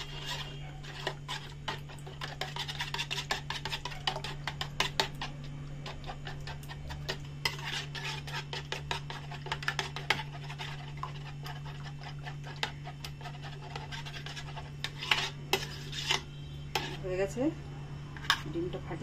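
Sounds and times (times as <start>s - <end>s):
spoon clinking and scraping bowl: 0.0s - 17.4s, 18.2s - 18.7s.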